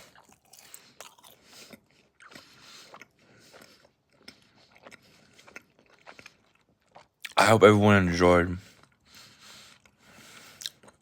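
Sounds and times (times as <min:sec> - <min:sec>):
person chewing food: 0:00.0 - 0:07.4, 0:08.6 - 0:11.0.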